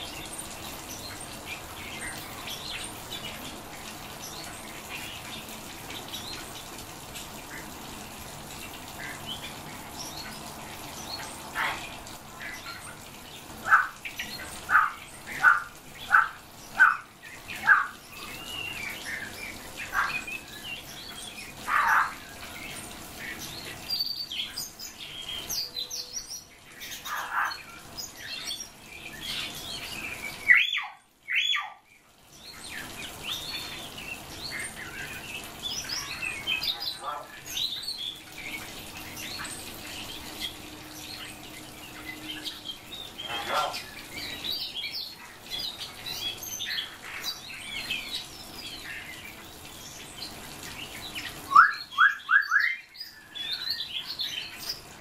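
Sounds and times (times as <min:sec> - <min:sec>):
songbirds calling and chirping: 0:00.0 - 0:55.0.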